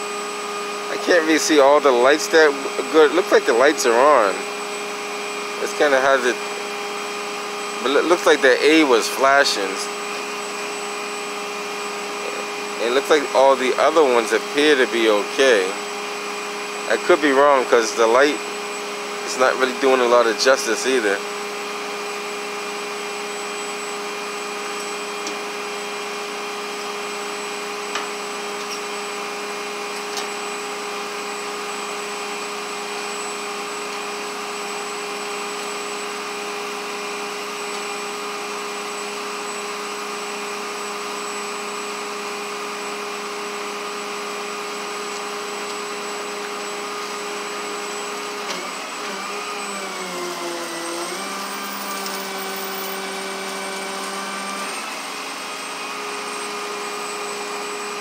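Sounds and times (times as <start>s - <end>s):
machine drone with whine: 0.0s - 55.6s.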